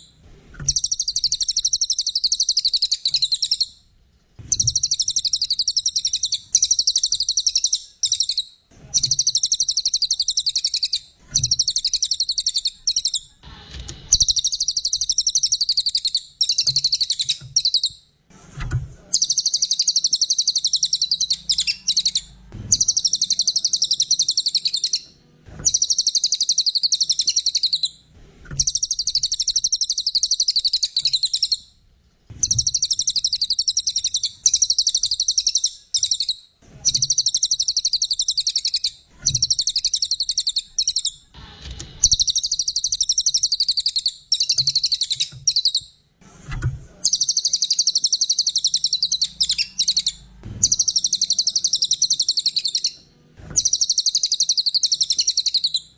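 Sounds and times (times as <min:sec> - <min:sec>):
bird chattering trill: 0:00.7 - 0:03.7, 0:04.5 - 0:13.3, 0:14.1 - 0:17.9, 0:19.2 - 0:25.0, 0:25.7 - 0:28.0, 0:28.6 - 0:31.6, 0:32.4 - 0:41.2, 0:42.0 - 0:45.8, 0:47.1 - 0:53.0, 0:53.6 - 0:55.9.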